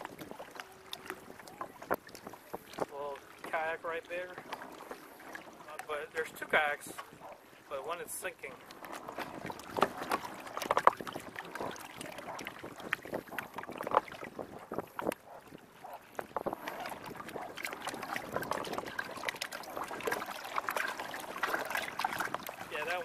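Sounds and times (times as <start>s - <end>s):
waves lapping against kayak hull: 0.0s - 23.0s.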